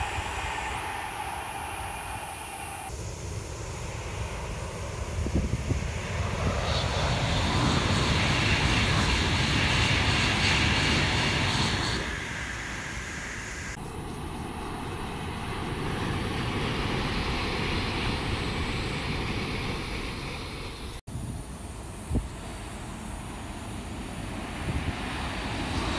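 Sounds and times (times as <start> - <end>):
train passing at high speed: 0.0 - 21.0, 21.8 - 25.9
soft rumble of passing train: 0.0 - 25.9.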